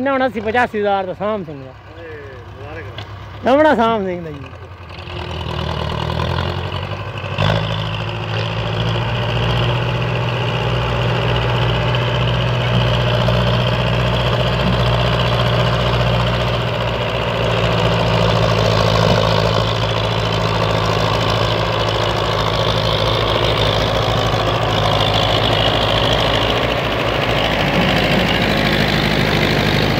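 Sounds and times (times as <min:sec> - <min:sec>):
tractor diesel engines under load: 0:00.0 - 0:29.9.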